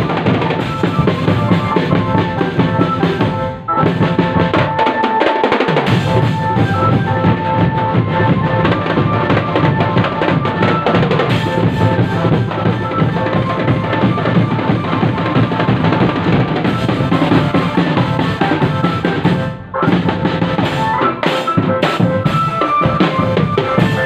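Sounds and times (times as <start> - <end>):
marching drum band playing: 0.0 - 24.0.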